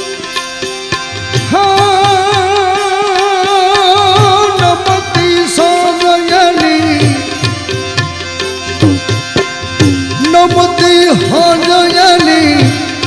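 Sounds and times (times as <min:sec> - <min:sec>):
sliding lead melody: 0:00.0 - 0:13.0
hand drum rhythm: 0:00.9 - 0:13.0.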